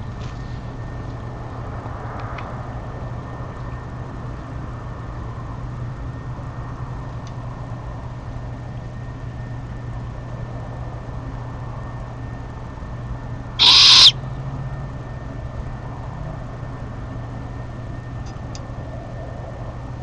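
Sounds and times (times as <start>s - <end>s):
steady low hum with hiss: 0.0s - 20.0s.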